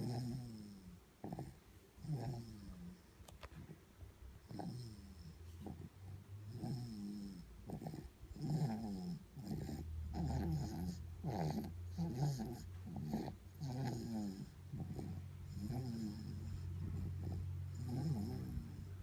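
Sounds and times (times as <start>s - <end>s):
baby snoring and snuffling: 0.0s - 2.7s, 4.5s - 19.0s
steady low hum: 0.0s - 19.0s.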